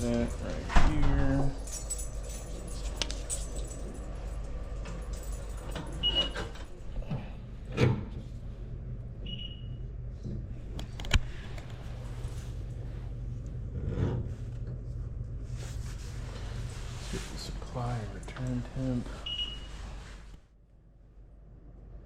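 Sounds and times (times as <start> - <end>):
gas furnace humming: 0.0 - 22.0.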